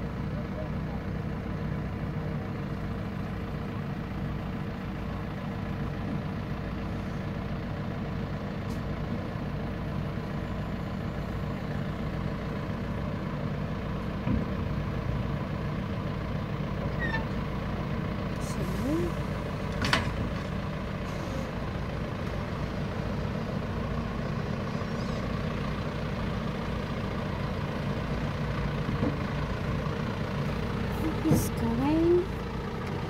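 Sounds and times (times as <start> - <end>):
diesel engines rumbling: 0.0 - 33.0.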